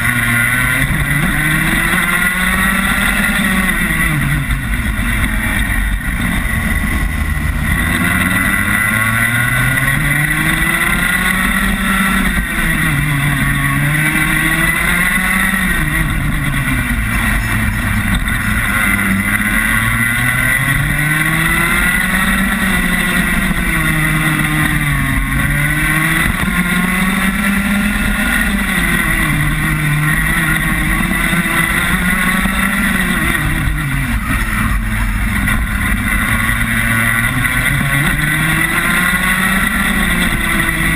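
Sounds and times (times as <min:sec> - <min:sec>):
kart engine accelerating: 0:00.0 - 0:40.9.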